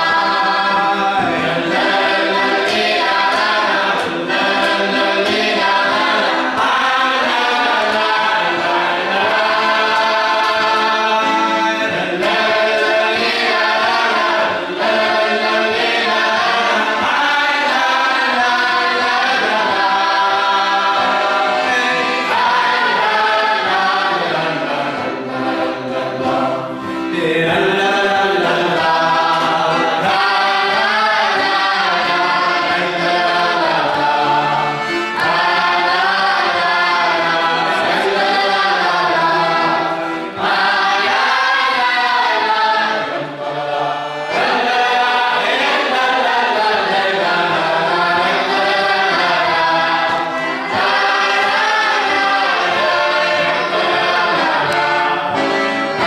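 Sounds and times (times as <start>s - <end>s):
accordion: 0.0s - 56.0s
boys' choir singing in unison: 0.0s - 56.0s.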